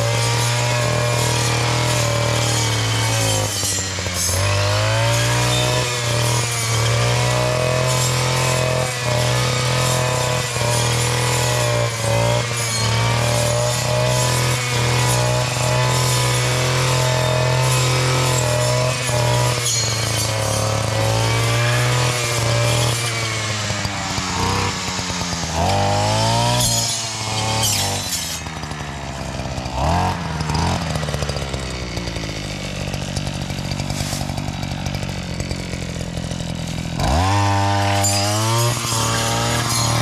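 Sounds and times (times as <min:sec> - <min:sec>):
brushcutter engine revving: 0:00.0 - 0:40.0.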